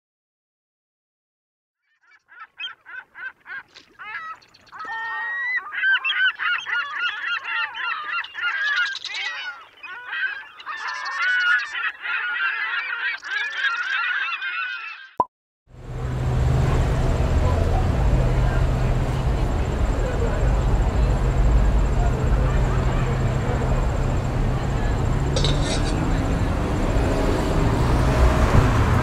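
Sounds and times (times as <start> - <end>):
flock of birds calling: 1.9 - 15.2, 16.5 - 27.5.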